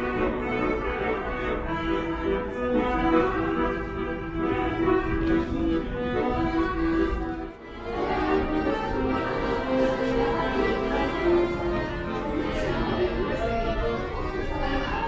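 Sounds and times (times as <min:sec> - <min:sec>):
cello: 0:00.0 - 0:15.0
violin: 0:00.0 - 0:15.0.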